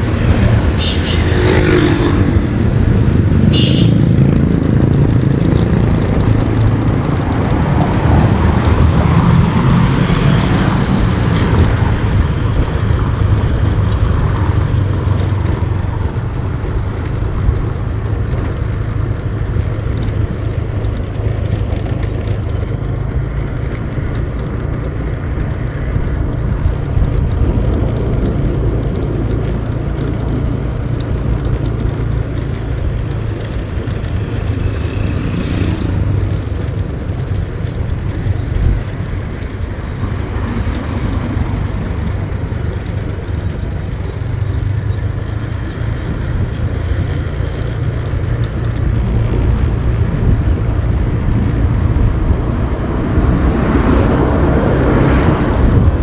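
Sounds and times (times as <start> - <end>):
motorbike engine and road noise: 0.0 - 56.0.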